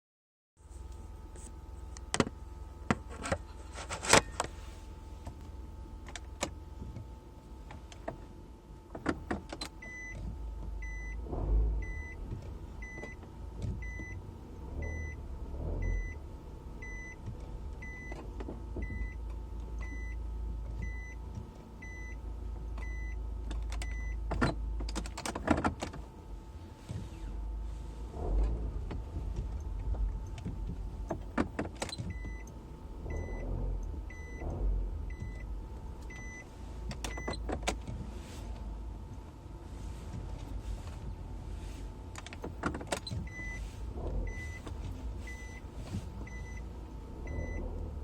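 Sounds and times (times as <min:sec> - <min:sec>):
abnormal engine noise: 0:00.6 - 0:48.0
car engine running: 0:00.6 - 0:48.0.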